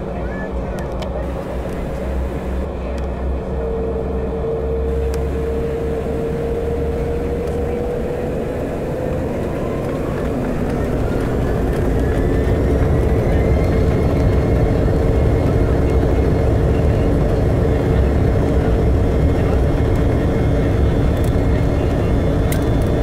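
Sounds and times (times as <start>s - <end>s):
jet engines rumbling and whining: 0.0s - 23.0s
rising engine whine: 1.1s - 23.0s.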